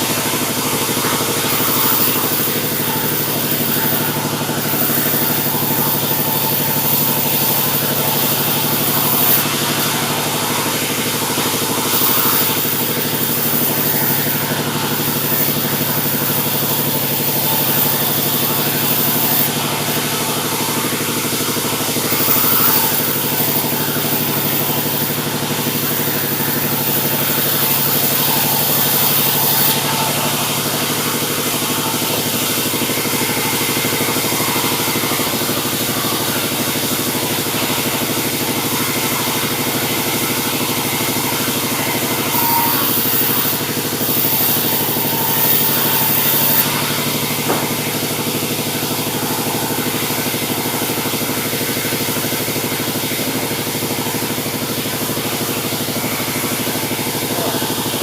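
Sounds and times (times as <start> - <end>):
saw cutting log hiss: 0.0 - 58.0
sawmill engine drone: 0.0 - 58.0.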